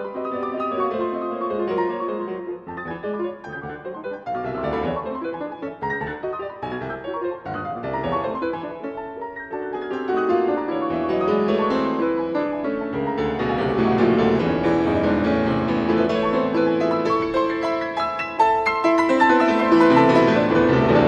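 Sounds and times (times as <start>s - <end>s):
grand piano playing: 0.0s - 21.0s.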